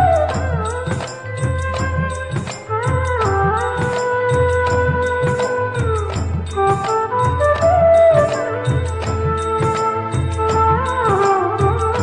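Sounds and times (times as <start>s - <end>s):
steady percussion beat: 0.0s - 12.0s.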